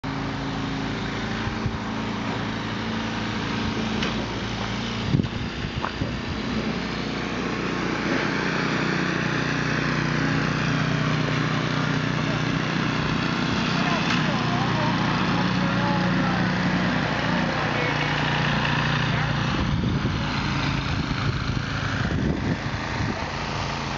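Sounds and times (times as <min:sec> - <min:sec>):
snowblower engine running: 0:00.0 - 0:23.9.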